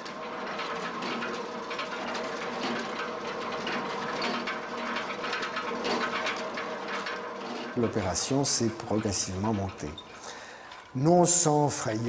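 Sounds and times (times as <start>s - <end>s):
metal parts rattling and clattering: 0.0s - 12.0s
steady machine hum: 0.0s - 12.0s.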